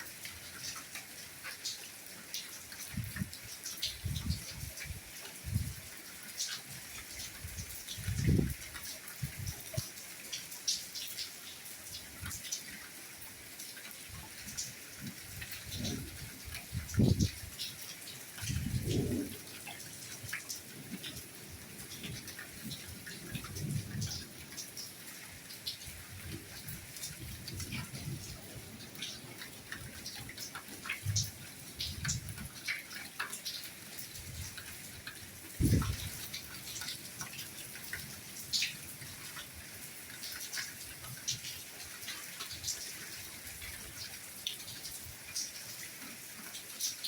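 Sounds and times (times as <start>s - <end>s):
heavy dull water drips: 0.0s - 47.0s
soft rain falling: 0.0s - 47.0s.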